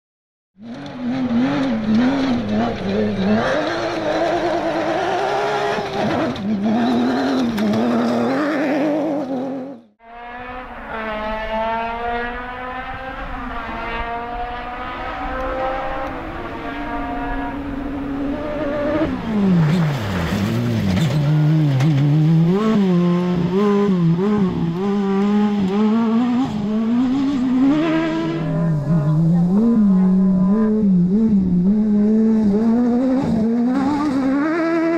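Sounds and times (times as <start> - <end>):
rally car engine revving: 0.6 - 34.9.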